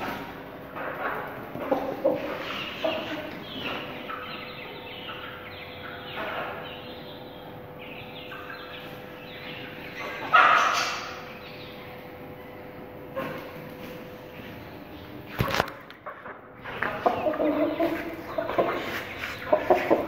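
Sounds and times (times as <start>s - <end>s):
chickens calling: 0.0s - 20.0s.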